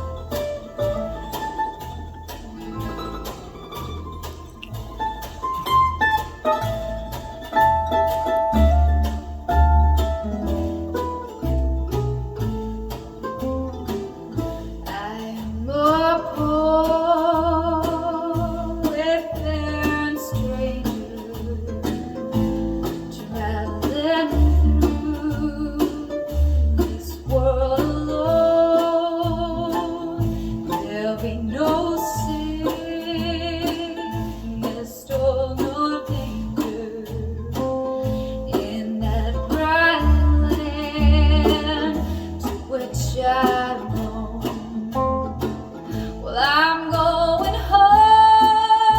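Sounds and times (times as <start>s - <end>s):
guitar: 0.0s - 48.9s
pulsing bass line: 0.0s - 48.9s.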